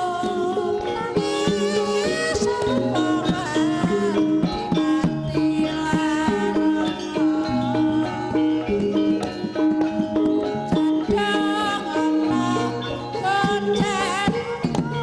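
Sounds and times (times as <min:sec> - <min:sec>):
drum strokes: 0:00.0 - 0:15.0
tuned percussion notes: 0:00.0 - 0:15.0.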